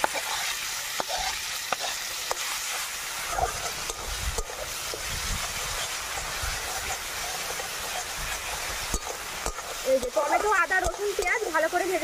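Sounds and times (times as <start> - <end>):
food sizzling in oil: 0.0 - 12.0
spatula scraping metal pan: 0.0 - 12.0.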